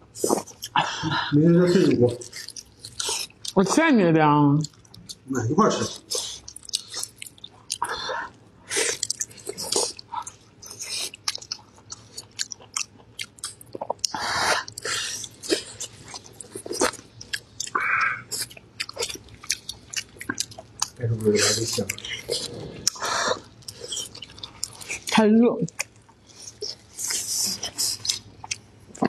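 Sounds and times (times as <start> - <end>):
wet chewing and lip-smacking: 0.1 - 0.8, 1.8 - 3.8, 4.6 - 29.0.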